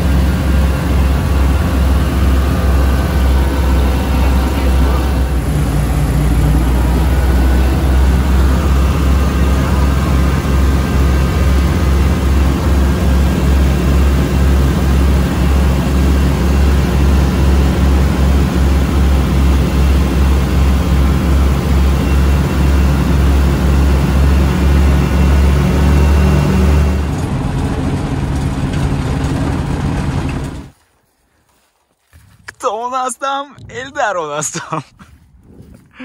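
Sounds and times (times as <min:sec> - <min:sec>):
aircraft engines droning: 0:00.0 - 0:30.9.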